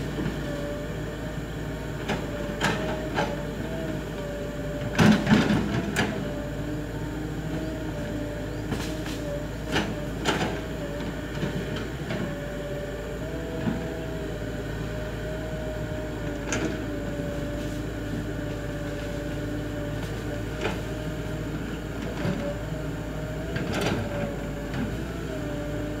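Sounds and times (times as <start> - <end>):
excavator engine whine: 0.0 - 26.0.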